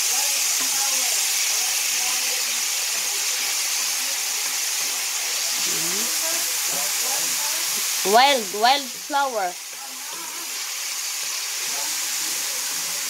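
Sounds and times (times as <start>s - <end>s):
meat and mushrooms sizzling: 0.0s - 13.0s.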